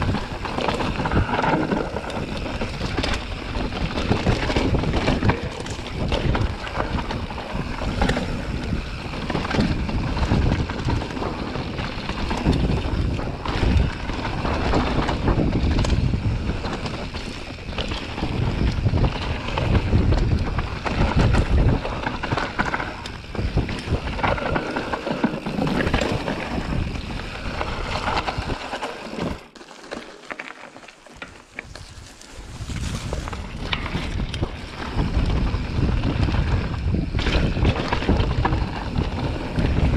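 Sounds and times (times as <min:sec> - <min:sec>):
wind buffeting microphone: 0:00.0 - 0:28.7, 0:31.6 - 0:39.9
bike rattling and knocking: 0:00.0 - 0:39.9
tyres rolling over dirt: 0:00.0 - 0:39.9.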